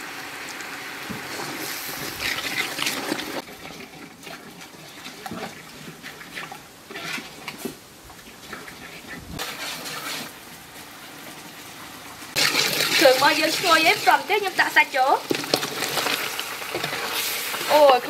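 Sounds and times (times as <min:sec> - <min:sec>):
sauce bubbling in a metal pot: 0:00.0 - 0:18.0
liquid sloshing: 0:01.3 - 0:10.9, 0:12.3 - 0:18.0.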